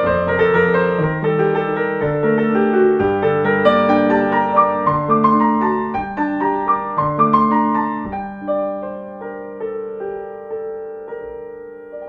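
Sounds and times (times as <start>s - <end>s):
piano single notes: 0.0s - 12.0s.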